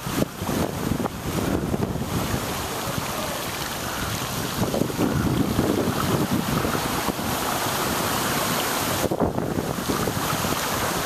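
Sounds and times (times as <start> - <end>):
bicycles splashing through water: 0.0 - 11.0
wind buffeting microphone: 0.0 - 11.0.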